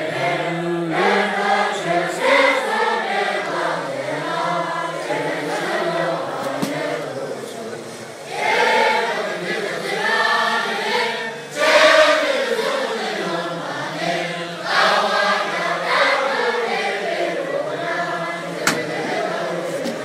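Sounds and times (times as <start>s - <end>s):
monks singing in unison: 0.0s - 20.0s.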